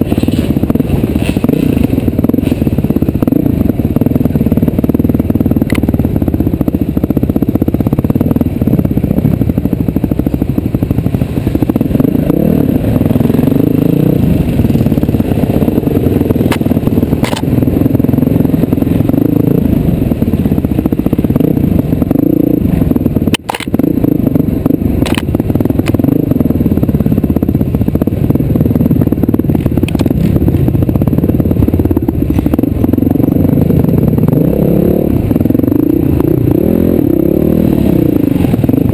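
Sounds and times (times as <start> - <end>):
vehicle engine running loudly: 0.0 - 38.9.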